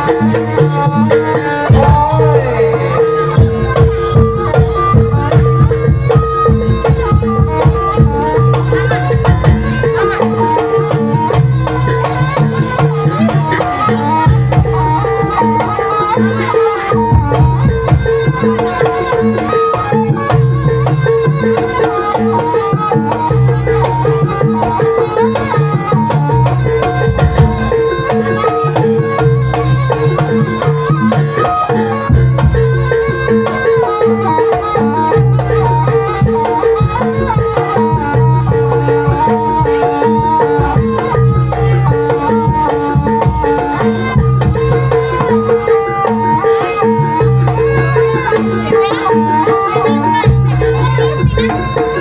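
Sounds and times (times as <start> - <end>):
hand drums beating: 0.0 - 52.0.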